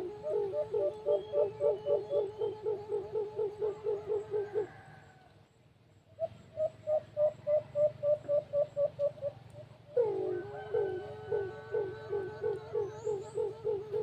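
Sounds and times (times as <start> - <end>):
dove cooing: 0.0 - 5.1, 6.2 - 14.0.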